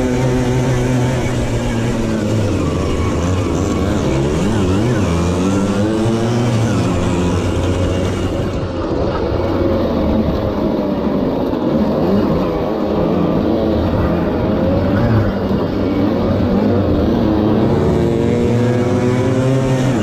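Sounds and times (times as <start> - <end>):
moped engine revving: 0.0 - 20.0
other mopeds running: 0.0 - 20.0.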